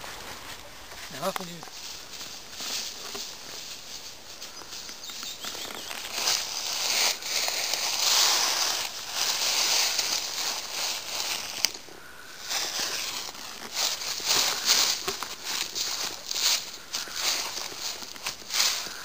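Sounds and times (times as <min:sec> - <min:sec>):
feet crunching dry leaves: 0:00.0 - 0:19.0.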